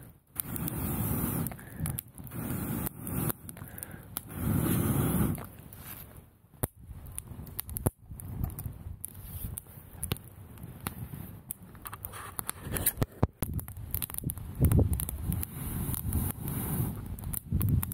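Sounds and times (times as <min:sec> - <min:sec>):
campfire crackling and popping: 0:00.0 - 0:17.9.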